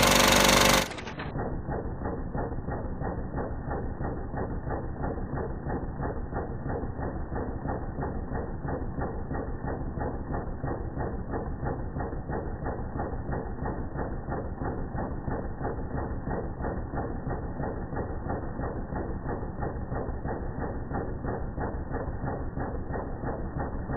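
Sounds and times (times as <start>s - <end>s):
film projector clattering: 0.0s - 23.9s.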